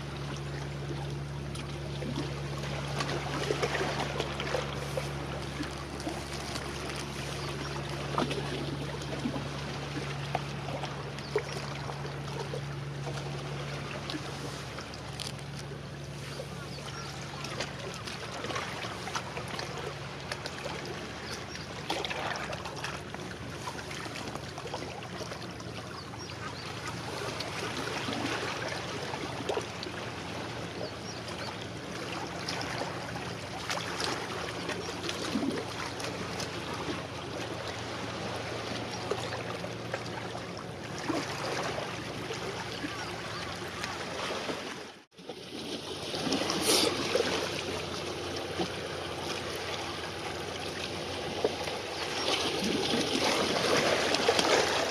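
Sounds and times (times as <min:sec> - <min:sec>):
ship engine drone: 0:00.0 - 0:54.9
small waves lapping: 0:00.0 - 0:54.9.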